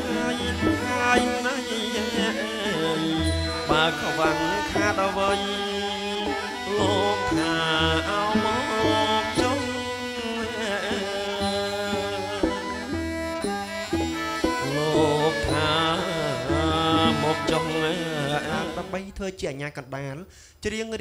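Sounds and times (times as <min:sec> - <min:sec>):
man singing into a microphone: 0:00.0 - 0:13.5, 0:14.4 - 0:19.4
drums and traditional instruments: 0:00.0 - 0:19.0.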